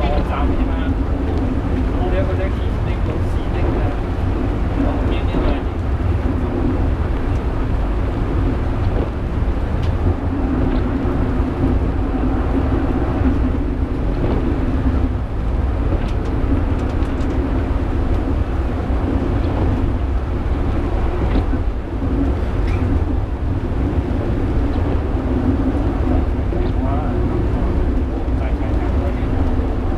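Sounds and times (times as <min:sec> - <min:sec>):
low hum: 0:00.0 - 0:29.9
wheels rumbling on rails: 0:00.0 - 0:29.9.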